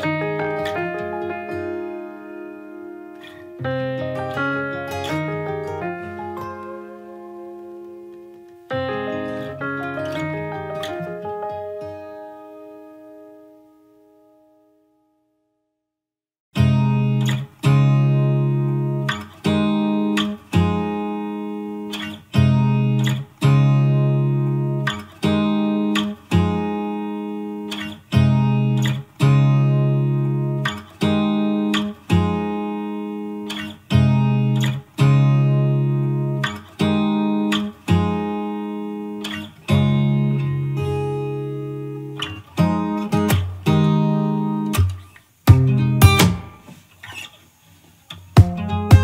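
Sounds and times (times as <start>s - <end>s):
plucked guitar chords: 0.0s - 14.7s, 16.6s - 46.8s, 48.2s - 49.0s.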